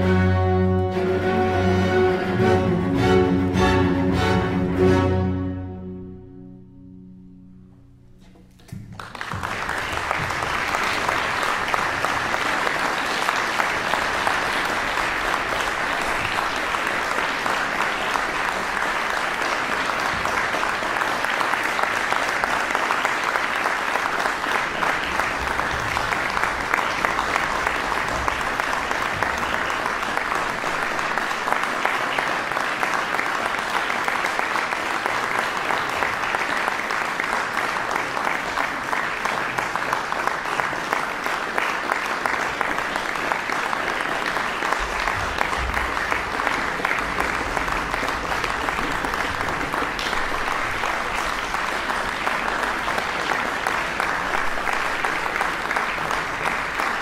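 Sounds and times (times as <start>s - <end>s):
audience applauding: 8.3s - 57.0s.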